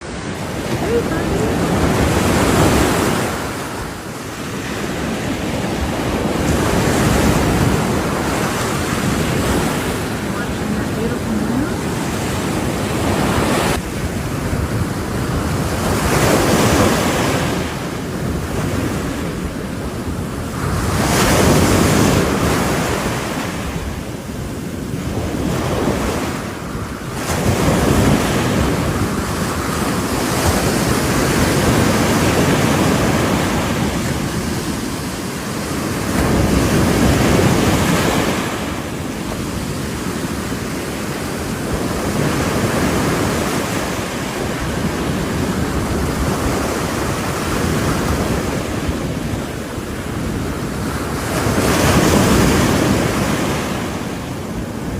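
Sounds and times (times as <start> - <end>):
waves breaking on shore: 0.0 - 54.9.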